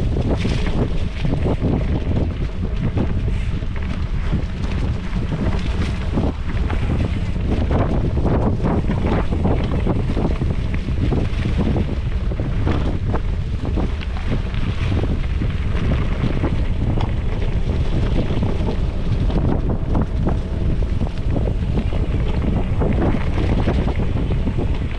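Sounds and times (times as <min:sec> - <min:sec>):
bike knocks and rattles: 0:00.0 - 0:24.9
bike tyre rumble on dirt: 0:00.0 - 0:24.9
wind buffeting camera: 0:00.0 - 0:24.9.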